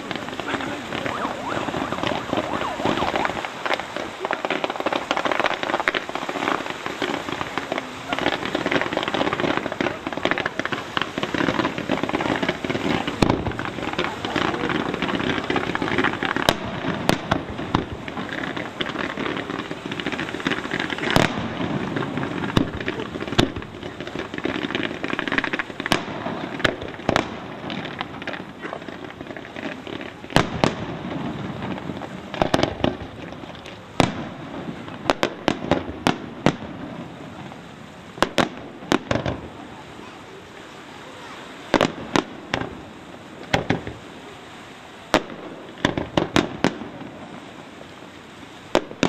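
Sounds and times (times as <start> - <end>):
continuous rushing noise: 0.0 - 49.0
fireworks bursting with bangs: 0.0 - 49.0.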